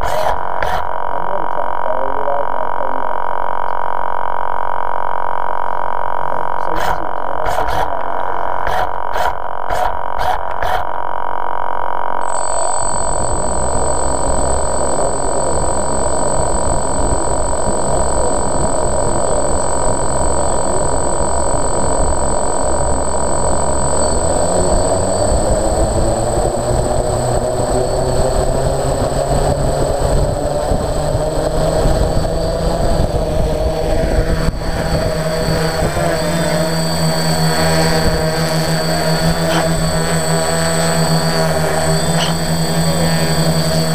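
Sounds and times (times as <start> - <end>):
drone motors and propellers whine: 0.0 - 43.9.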